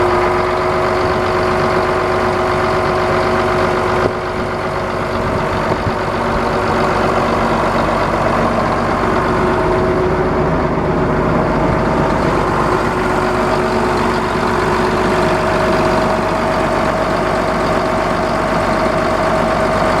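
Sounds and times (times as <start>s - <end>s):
diesel engine running: 0.0s - 20.0s
steady whine: 0.0s - 20.0s.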